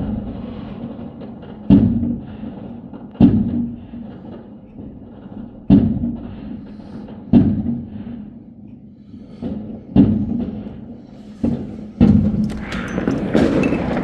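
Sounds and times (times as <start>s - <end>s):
fireworks booming: 0.0s - 8.2s, 9.6s - 14.0s.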